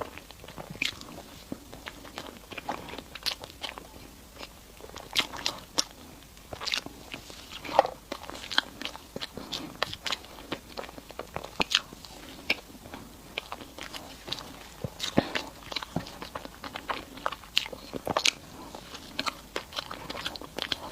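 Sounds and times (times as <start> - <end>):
mouth clicks and smacks: 0.0 - 20.9
person chewing: 0.0 - 20.9.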